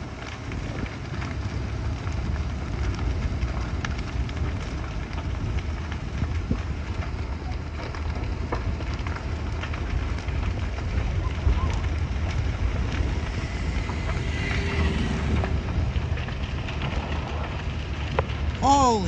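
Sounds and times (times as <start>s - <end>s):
fire crackling and popping: 0.0s - 19.0s
large fire roaring: 0.0s - 19.0s.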